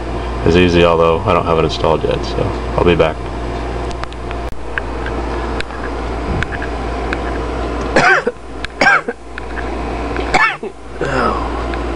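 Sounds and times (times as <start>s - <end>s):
room and computer hum: 0.0s - 11.9s.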